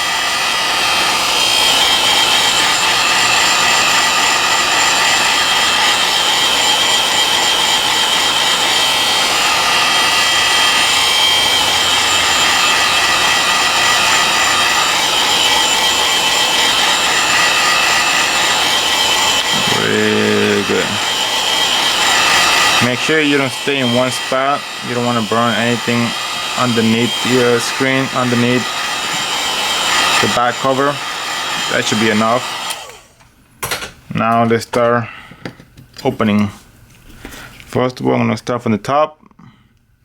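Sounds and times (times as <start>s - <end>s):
heat gun blowing with whine: 0.0s - 33.3s.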